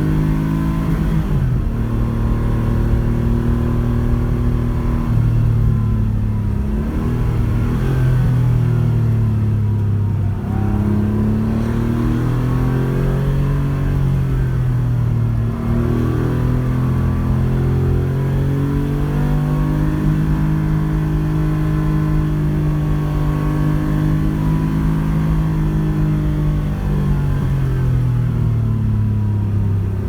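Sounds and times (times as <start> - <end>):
rally car engine under load: 0.0 - 30.0.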